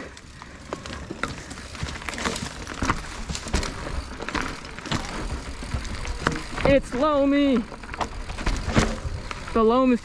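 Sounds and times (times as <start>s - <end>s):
bike rattling over ground: 0.0s - 10.0s.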